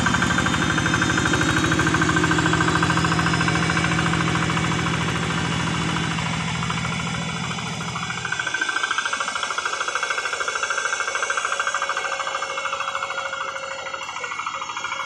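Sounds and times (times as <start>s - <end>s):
diesel tractor engine chugging: 0.0s - 15.0s.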